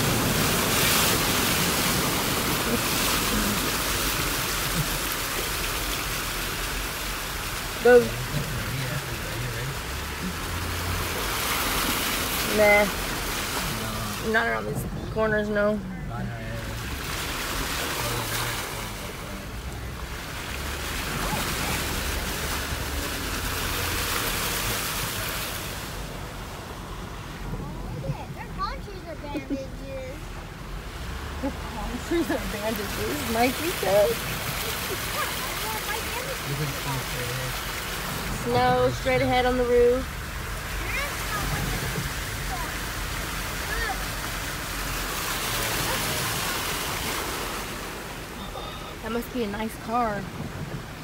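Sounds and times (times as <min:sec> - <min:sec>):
car tyres splashing through water: 0:00.0 - 0:51.0
low road rumble: 0:00.0 - 0:51.0.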